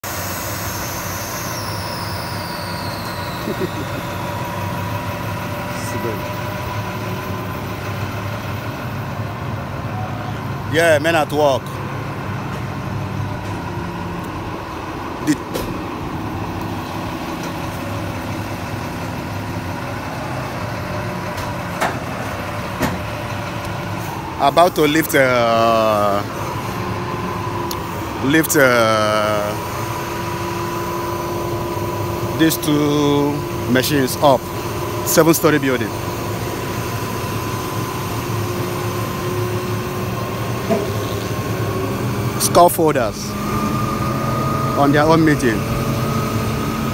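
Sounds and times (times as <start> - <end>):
diesel engine idling: 0.0 - 46.9
high machine whine: 0.0 - 46.9.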